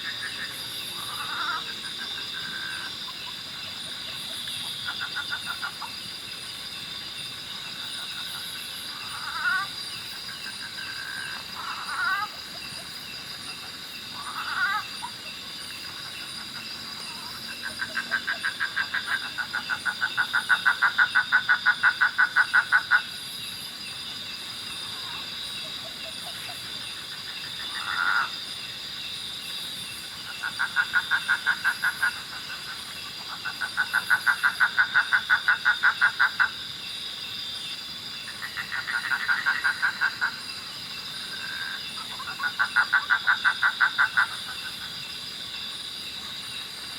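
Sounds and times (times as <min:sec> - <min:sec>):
frog calling in pulsed trills: 0:00.0 - 0:36.7, 0:37.6 - 0:46.9
high drone of night insects: 0:00.0 - 0:46.9.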